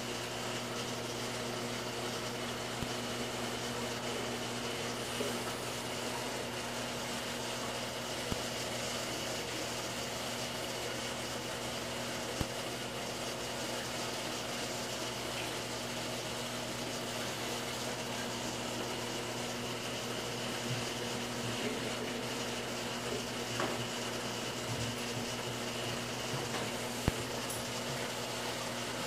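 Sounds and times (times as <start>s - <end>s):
aquarium pumps humming: 0.0s - 29.0s.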